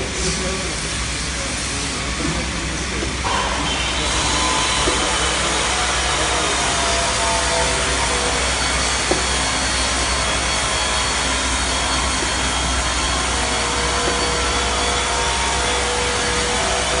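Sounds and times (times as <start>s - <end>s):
labeling machine running: 2.8s - 17.0s.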